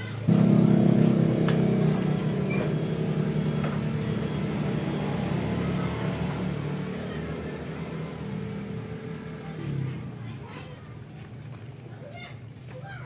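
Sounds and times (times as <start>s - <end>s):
scooter engine running: 0.2s - 12.1s.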